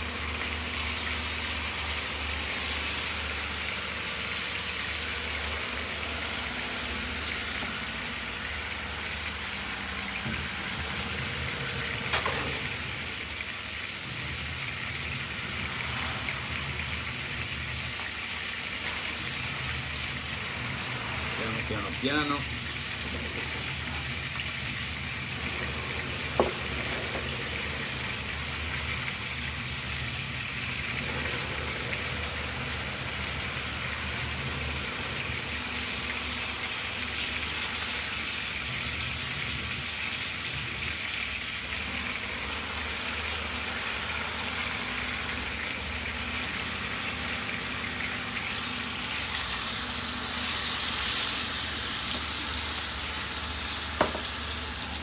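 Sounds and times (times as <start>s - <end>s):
fish sizzling in pans: 0.0s - 55.0s.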